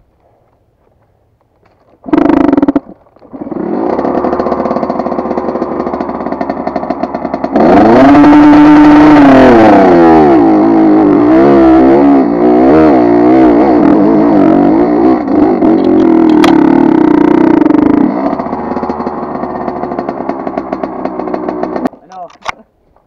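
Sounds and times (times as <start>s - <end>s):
dirt bike engine revving: 2.0s - 21.9s.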